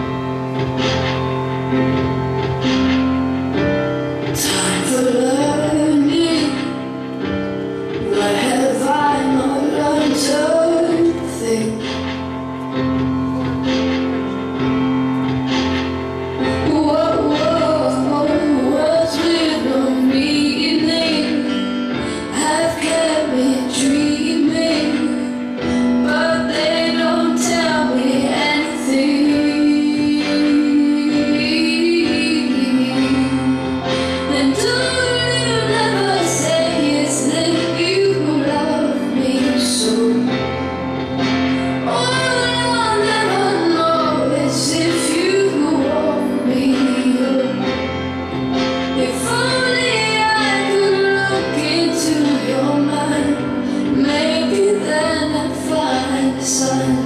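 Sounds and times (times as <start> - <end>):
woman singing: 4.3 - 12.4, 16.4 - 40.8, 41.5 - 48.0, 48.6 - 57.0.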